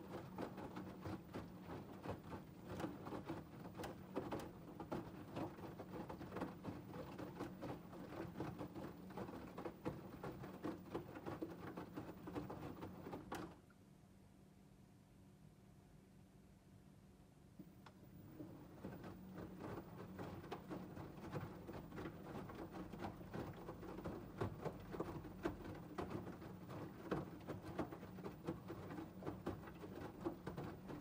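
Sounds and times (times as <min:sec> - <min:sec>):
washing machine drum tumbling laundry: 0:00.0 - 0:13.6, 0:18.0 - 0:31.0.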